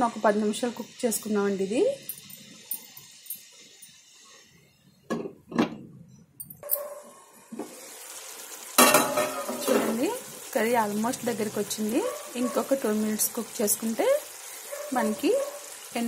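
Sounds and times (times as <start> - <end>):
sizzling and stirring: 0.0 - 5.0, 7.0 - 16.0
low steady simmer: 0.0 - 16.0.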